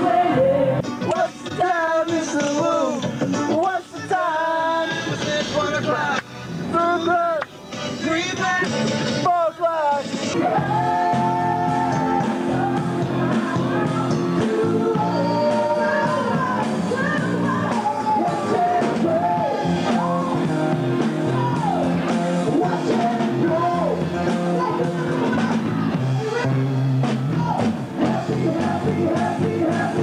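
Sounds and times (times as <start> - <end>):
steady bass line: 0.0 - 9.3, 10.0 - 30.0
guitar: 0.0 - 30.0
person singing lead vocals: 0.0 - 30.0
rock song: 0.0 - 30.0.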